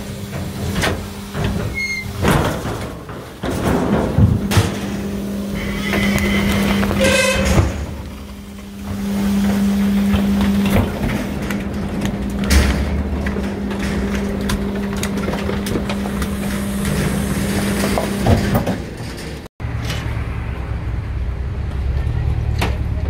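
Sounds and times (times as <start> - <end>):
garbage truck packer humming: 0.0 - 20.7.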